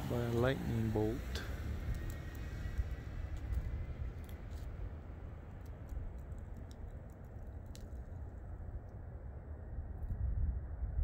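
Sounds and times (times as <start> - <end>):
low fluctuating storm rumble: 0.0 - 11.0.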